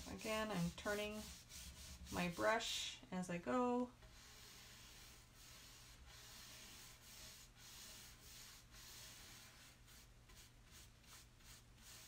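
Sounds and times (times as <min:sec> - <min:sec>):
brush scrubbing furniture: 0:00.0 - 0:02.4, 0:04.1 - 0:12.0.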